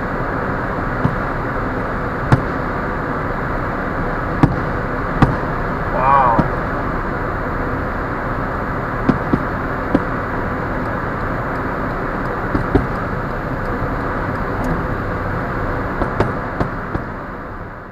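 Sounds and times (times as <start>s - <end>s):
car road and engine noise: 0.0s - 17.9s.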